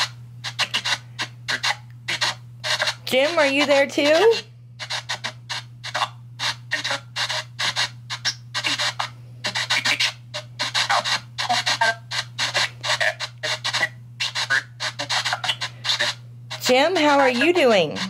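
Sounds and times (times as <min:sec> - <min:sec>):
radio static and broadcast snatches: 0:00.0 - 0:18.0
steady low hum: 0:00.0 - 0:18.0.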